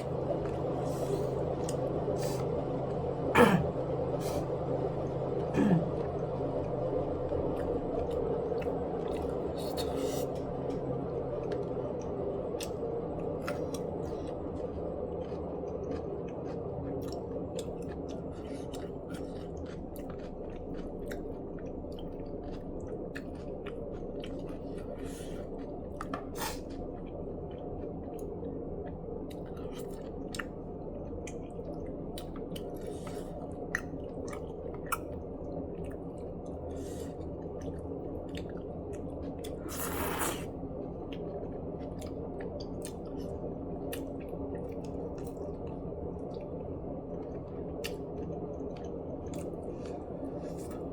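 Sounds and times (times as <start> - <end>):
person chewing food: 0.0 - 50.9
steady low hum: 0.0 - 50.9.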